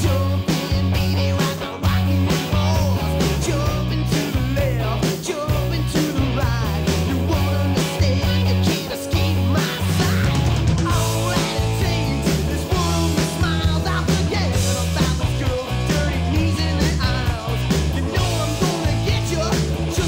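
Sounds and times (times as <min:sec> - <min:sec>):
rock band with electric guitar: 0:00.0 - 0:20.0.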